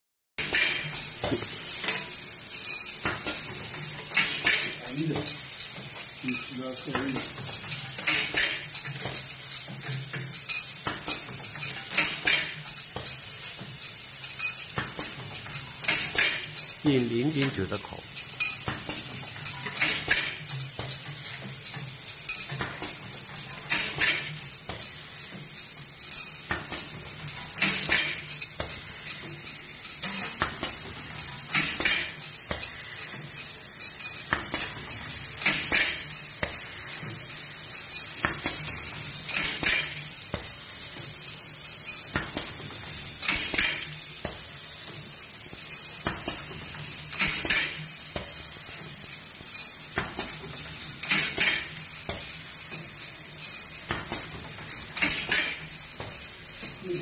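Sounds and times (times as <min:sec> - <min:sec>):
metal and glass clinks: 0:00.4 - 0:57.0
steady high hiss: 0:00.5 - 0:57.0.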